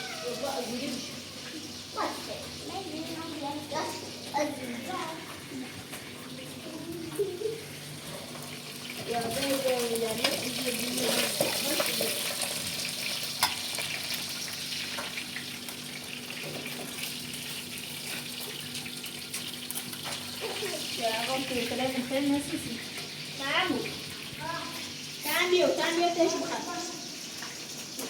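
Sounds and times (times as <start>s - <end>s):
tap water running: 0.0s - 28.0s.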